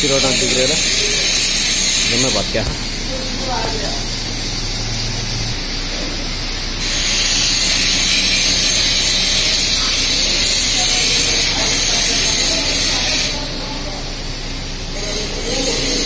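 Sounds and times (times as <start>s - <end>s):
steady loud hiss: 0.0s - 16.0s.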